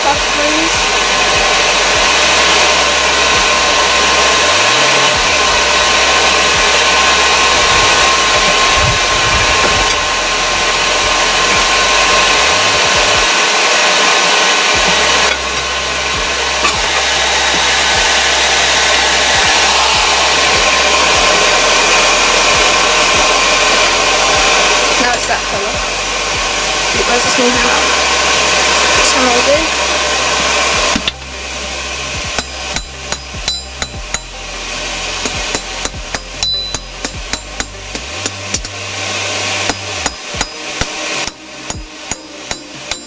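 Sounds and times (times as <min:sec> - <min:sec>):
forge blower rushing air: 0:00.0 - 0:43.0.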